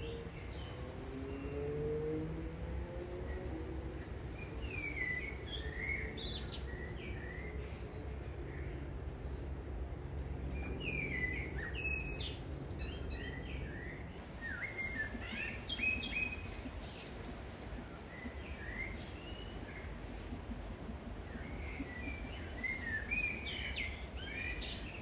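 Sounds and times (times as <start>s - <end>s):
birds chirping: 0.0s - 25.0s
low background noise: 0.0s - 25.0s.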